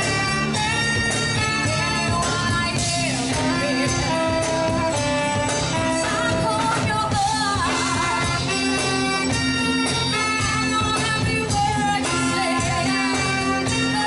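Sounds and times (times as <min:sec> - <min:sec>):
live band playing pop song: 0:00.0 - 0:14.0.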